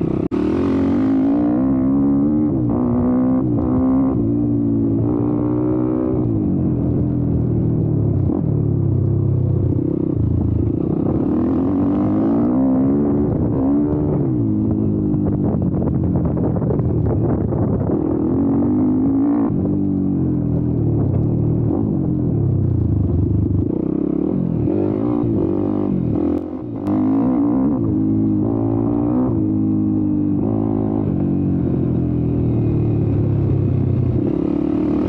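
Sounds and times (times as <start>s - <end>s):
motorbike engine revving: 0.0s - 19.8s, 21.3s - 35.0s.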